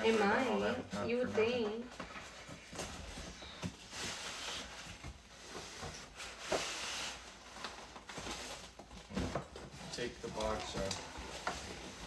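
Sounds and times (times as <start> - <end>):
cardboard and foam rustling: 0.0 - 12.0.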